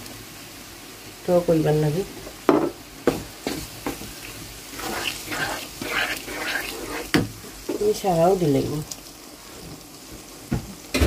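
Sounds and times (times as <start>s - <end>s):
garlic sizzling and crackling: 0.0s - 11.0s.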